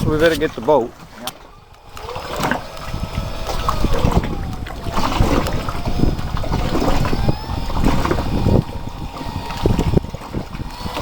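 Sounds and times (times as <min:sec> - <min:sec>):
wind buffeting microphone: 0:00.0 - 0:11.0
small motor whining: 0:01.2 - 0:11.0.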